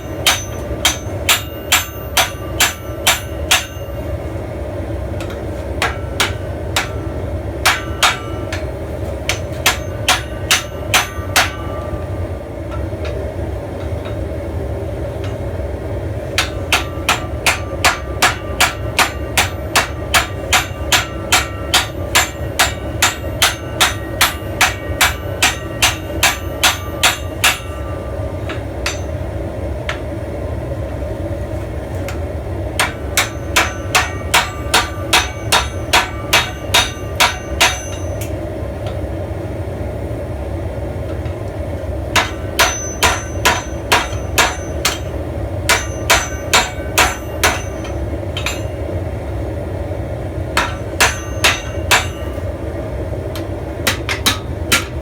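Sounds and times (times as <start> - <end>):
hammer striking steel on anvil: 0.0 - 4.4, 5.2 - 14.3, 15.1 - 15.5, 16.2 - 30.2, 32.8 - 39.0, 42.1 - 48.9, 50.6 - 52.5, 53.4 - 55.0.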